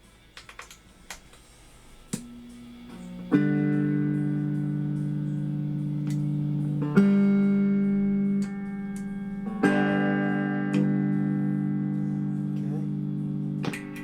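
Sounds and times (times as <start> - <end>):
electric guitar chords ringing: 0.0 - 14.0.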